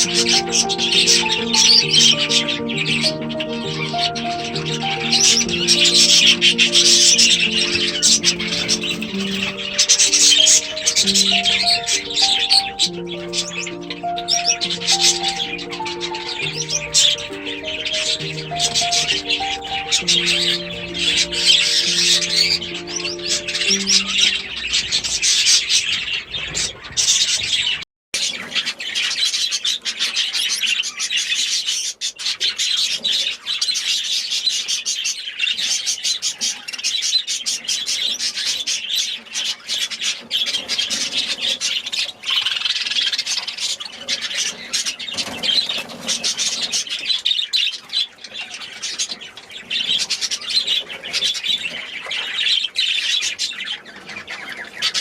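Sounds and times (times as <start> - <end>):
cage birds chattering and squawking: 0.0 - 55.0.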